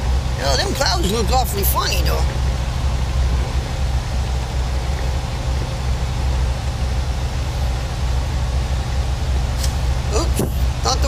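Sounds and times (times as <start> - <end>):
diesel truck engine droning: 0.0 - 11.0
road and wind noise: 0.0 - 11.0.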